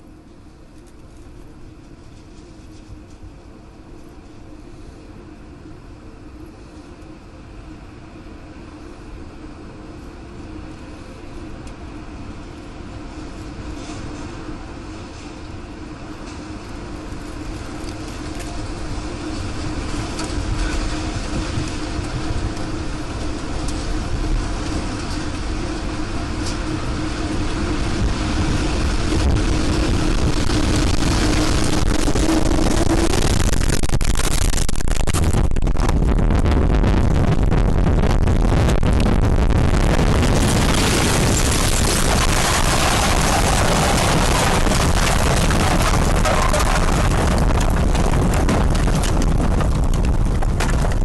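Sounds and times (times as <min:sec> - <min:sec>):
low hum: 0:00.0 - 0:51.0
moving vehicle rumble: 0:01.0 - 0:51.0.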